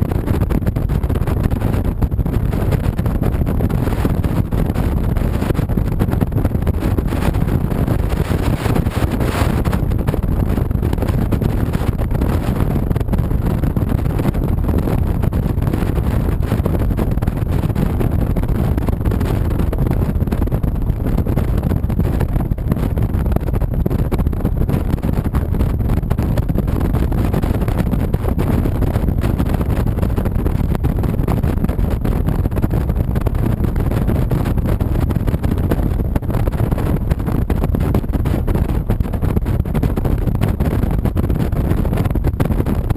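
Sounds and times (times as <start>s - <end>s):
motorcycle engine riding: 0.0s - 42.9s
wind rush on microphone: 0.0s - 42.9s.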